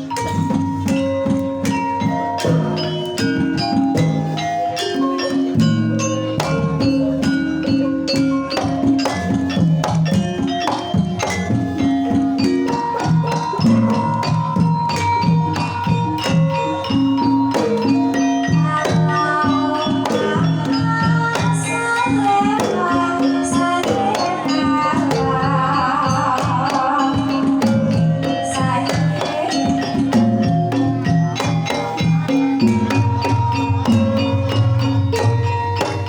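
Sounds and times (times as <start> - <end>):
gamelan music: 0.0 - 36.0
wavering melodic line: 0.0 - 36.0.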